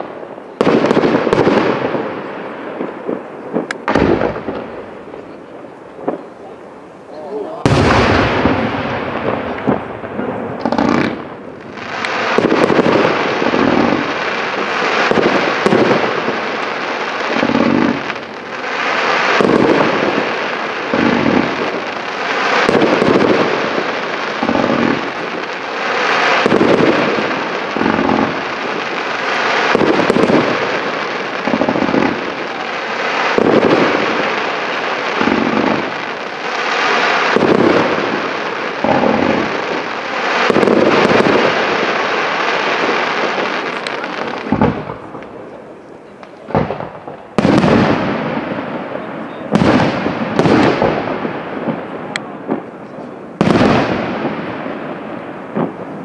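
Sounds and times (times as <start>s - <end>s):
fireworks crackling hiss: 0.0s - 56.0s
fireworks shots and bursts: 0.0s - 56.0s
sharp fireworks bangs: 0.0s - 56.0s.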